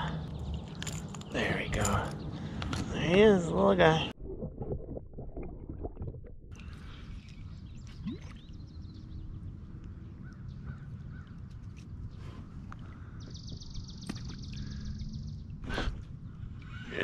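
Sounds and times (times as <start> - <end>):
wild birds calling: 0.0 - 3.3, 6.6 - 17.0.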